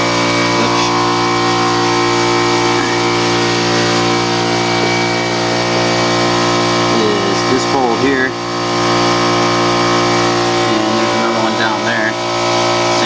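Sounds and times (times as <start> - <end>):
low even pulsing: 0.0 - 13.0
steady mechanical hum: 0.0 - 13.0.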